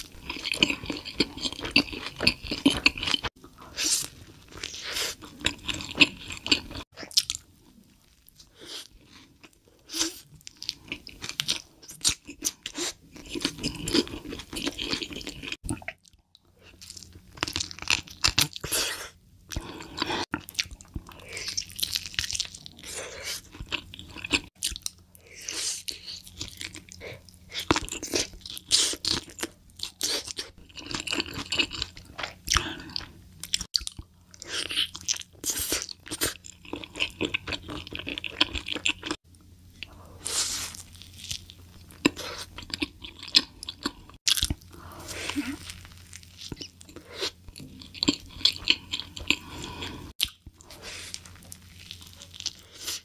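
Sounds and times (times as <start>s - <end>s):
crunching and chewing food: 0.0s - 53.0s.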